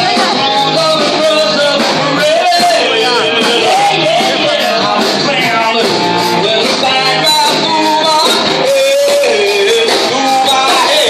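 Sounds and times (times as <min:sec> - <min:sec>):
person singing: 0:00.0 - 0:11.0
rock band playing live: 0:00.0 - 0:11.0.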